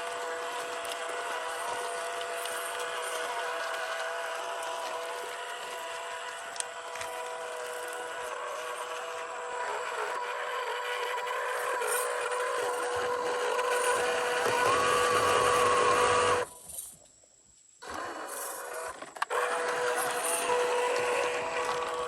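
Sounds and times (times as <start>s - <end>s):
toy car motor whining: 0.0s - 17.0s, 17.8s - 22.0s.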